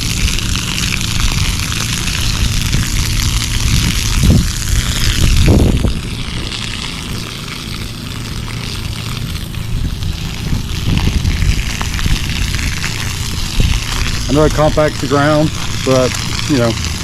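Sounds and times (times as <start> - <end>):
garden hose pouring water: 0.0 - 17.0
low gusting rumble: 0.0 - 17.0.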